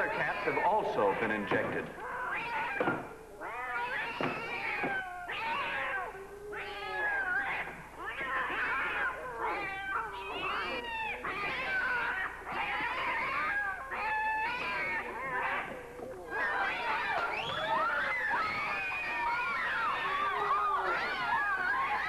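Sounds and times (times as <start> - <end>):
cats yowling: 0.0 - 22.0.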